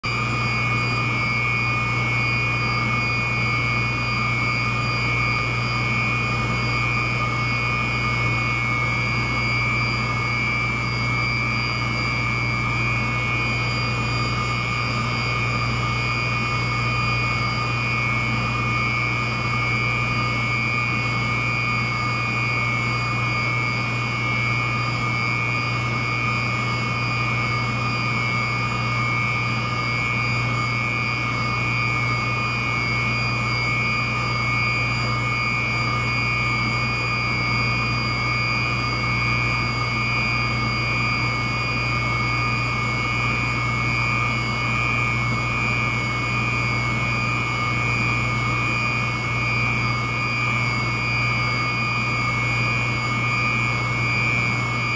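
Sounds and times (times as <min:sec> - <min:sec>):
chiller drone: 0:00.0 - 0:54.9
high-pitched whine: 0:00.1 - 0:54.9.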